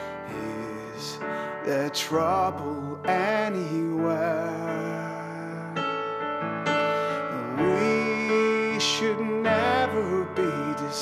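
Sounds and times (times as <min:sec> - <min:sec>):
man singing a hymn: 0:00.0 - 0:06.1, 0:06.8 - 0:11.0
piano chords: 0:00.0 - 0:11.0.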